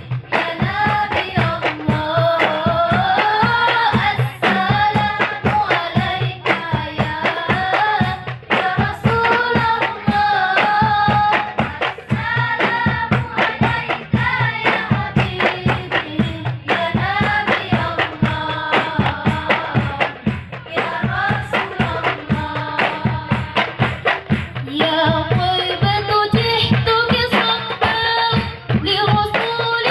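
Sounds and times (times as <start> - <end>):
fast percussion beat: 0.0 - 29.9.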